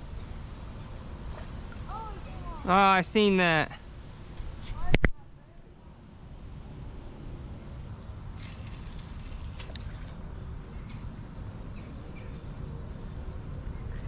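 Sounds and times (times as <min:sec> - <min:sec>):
faint high-pitched hum: 0:00.0 - 0:14.0.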